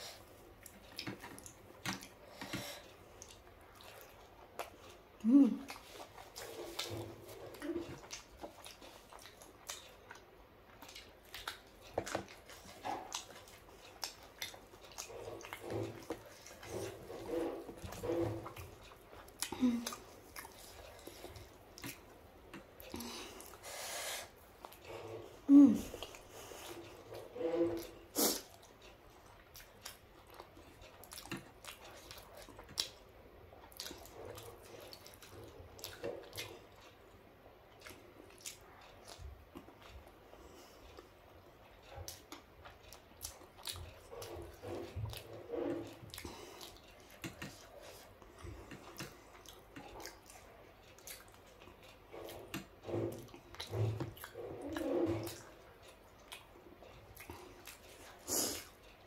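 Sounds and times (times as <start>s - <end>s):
close chewing with wet mouth clicks: 0.1s - 59.0s.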